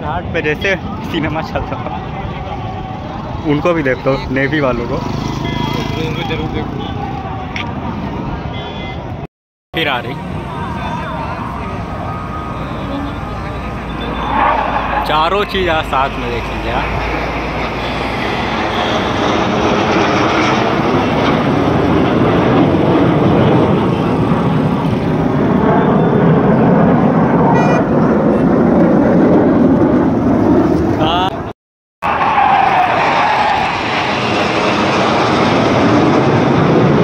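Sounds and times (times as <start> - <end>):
jet aircraft flying overhead: 0.0 - 9.1, 9.8 - 37.0.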